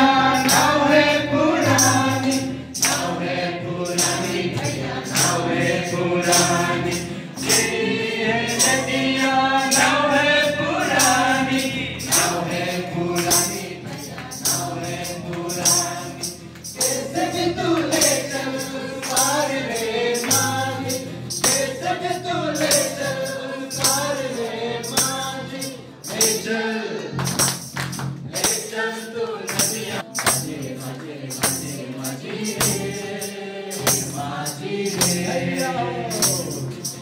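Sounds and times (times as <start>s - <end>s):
steady percussion beat: 0.0s - 26.5s, 27.2s - 37.0s
group singing gospel hymn: 0.0s - 27.3s, 28.2s - 37.0s.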